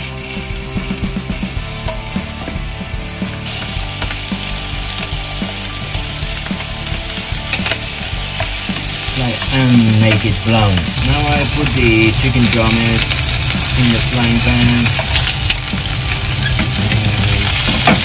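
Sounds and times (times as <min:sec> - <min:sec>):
chicken sizzling in hot oil: 0:00.0 - 0:18.0
oil popping: 0:00.0 - 0:18.0.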